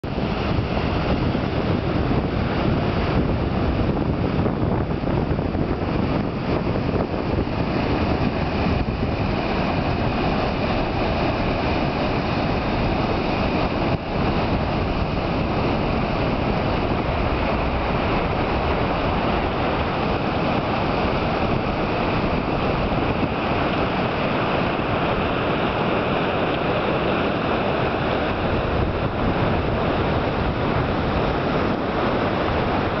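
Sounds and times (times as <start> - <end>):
river rushing into surf: 0.0 - 33.0
wind buffeting microphone: 0.0 - 33.0.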